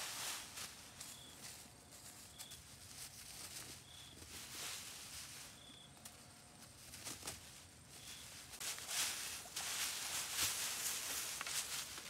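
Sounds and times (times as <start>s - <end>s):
rustling and brushing: 0.0s - 12.0s.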